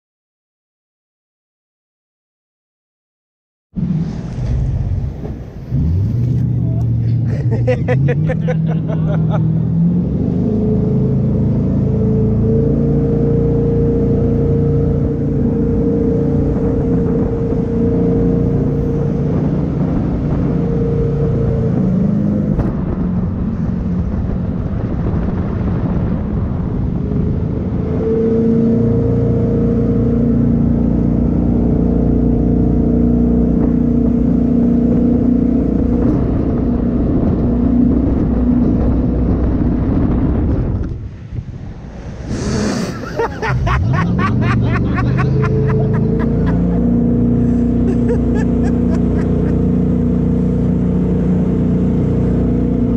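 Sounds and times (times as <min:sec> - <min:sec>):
jet boat engine running: 0:03.8 - 0:52.9.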